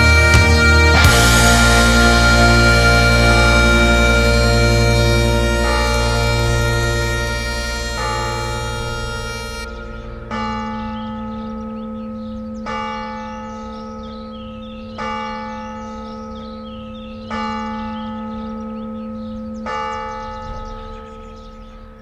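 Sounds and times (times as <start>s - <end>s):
large bell tolling: 0.0s - 22.0s.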